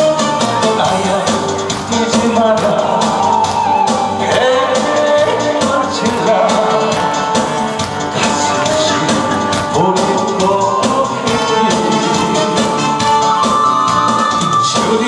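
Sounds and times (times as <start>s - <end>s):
backing track with drum beat: 0.0s - 15.0s
man singing into a microphone: 0.0s - 15.0s.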